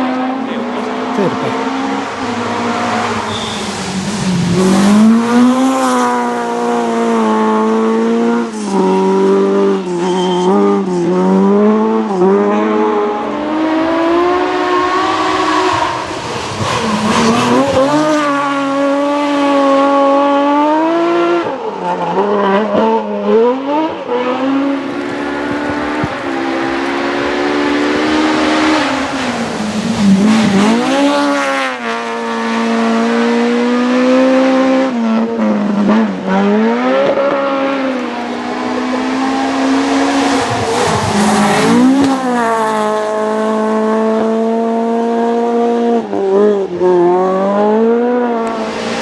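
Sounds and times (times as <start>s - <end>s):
rally car engine revving: 0.0s - 49.0s.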